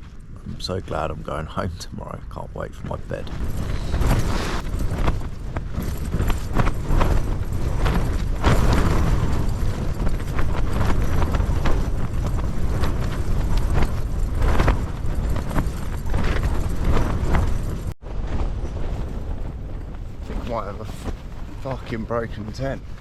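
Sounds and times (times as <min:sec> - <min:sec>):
wind rumble on microphone: 0:00.0 - 0:23.0
tent fabric flapping: 0:02.8 - 0:23.0.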